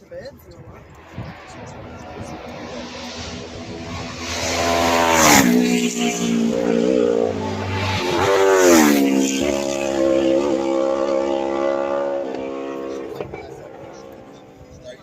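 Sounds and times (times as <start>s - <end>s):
motorbikes passing at high speed: 0.2s - 15.0s.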